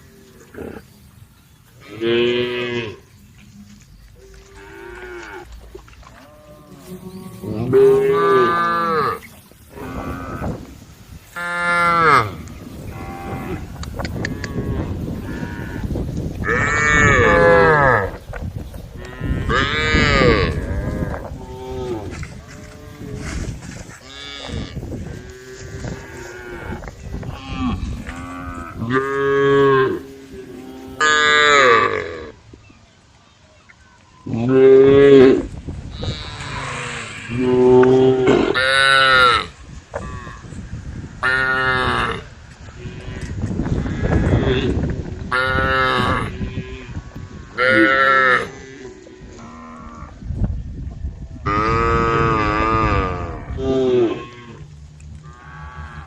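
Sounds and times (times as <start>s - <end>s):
cows mooing: 1.8s - 10.8s, 11.4s - 18.2s, 19.0s - 32.4s, 34.3s - 40.5s, 41.2s - 50.2s, 51.4s - 56.0s.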